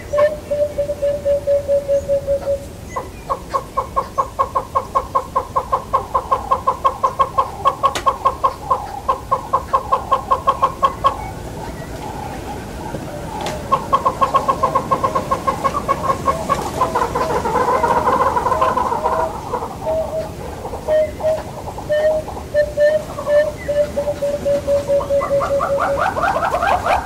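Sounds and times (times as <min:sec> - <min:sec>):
hornbill rapid clucking: 0:03.0 - 0:27.0.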